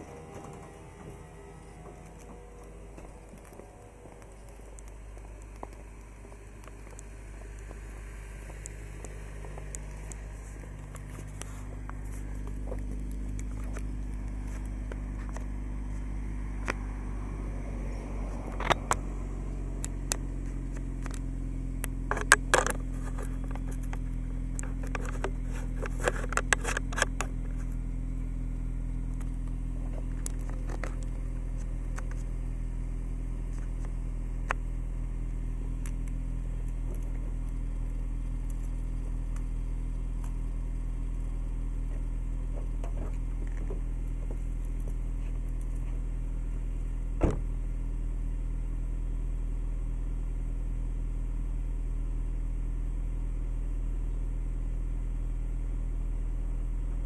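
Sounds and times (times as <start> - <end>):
car engine humming: 0.0 - 57.0.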